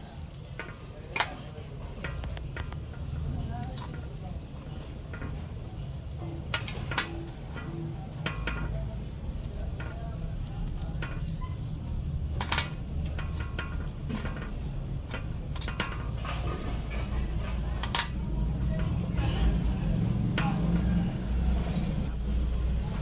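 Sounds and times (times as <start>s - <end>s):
steady low rumble: 1.7s - 23.0s.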